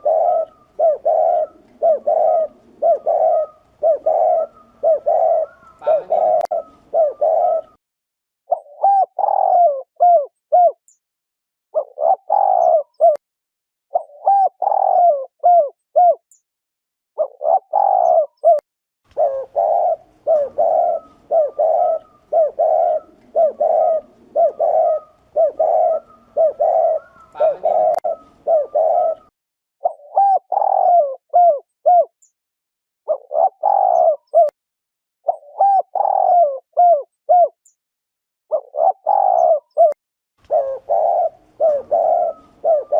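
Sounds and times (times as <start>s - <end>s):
doves cooing: 0.0s - 7.8s, 8.5s - 10.8s, 11.8s - 13.2s, 14.0s - 16.2s, 17.2s - 32.1s, 33.1s - 34.5s, 35.3s - 37.5s, 38.5s - 42.9s.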